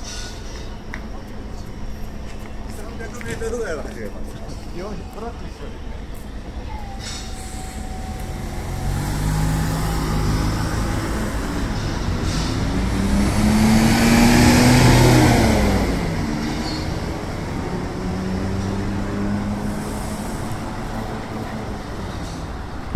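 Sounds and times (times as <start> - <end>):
bus engine accelerating: 0.0 - 22.9
street traffic: 0.0 - 22.9.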